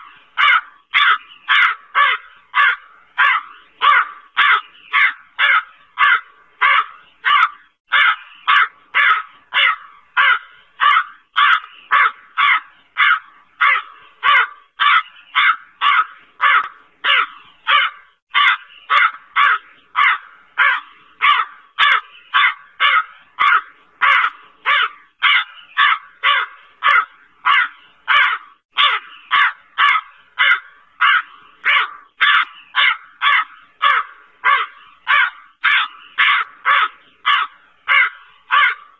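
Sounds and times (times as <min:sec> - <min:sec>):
crow cawing: 0:00.0 - 0:38.9.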